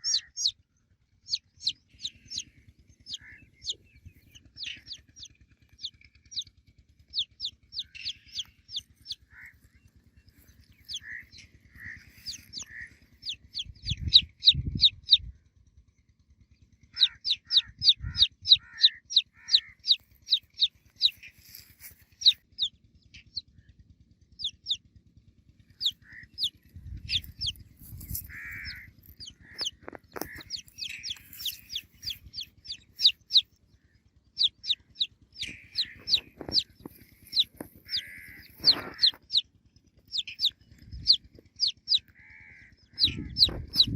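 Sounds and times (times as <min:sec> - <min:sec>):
baby chicks peeping: 0:00.0 - 0:00.6, 0:01.2 - 0:15.3, 0:16.9 - 0:23.5, 0:24.4 - 0:24.8, 0:25.8 - 0:33.6, 0:34.3 - 0:39.4, 0:40.0 - 0:43.9.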